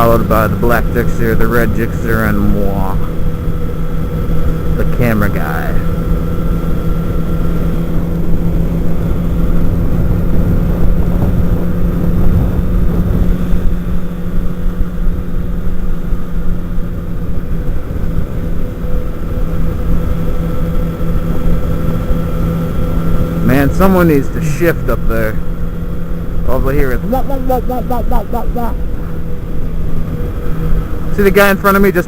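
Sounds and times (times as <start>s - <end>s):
wind rumble on microphone: 0.0s - 24.0s, 28.7s - 31.6s
motorcycle engine cruising: 0.0s - 32.0s.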